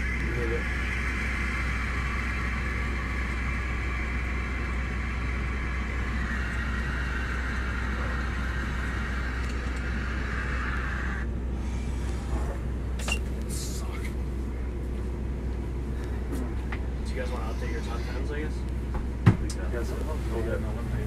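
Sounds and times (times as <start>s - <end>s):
vehicle cabin engine rumble: 0.0s - 21.0s.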